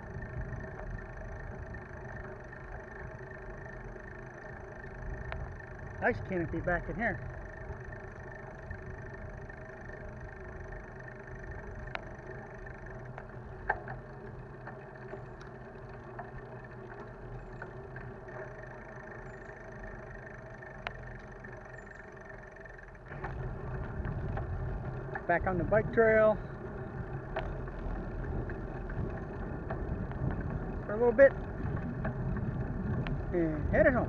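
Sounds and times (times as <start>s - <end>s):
bicycle rolling on asphalt: 0.0s - 34.0s
sharp clicks from bumps: 0.0s - 34.0s.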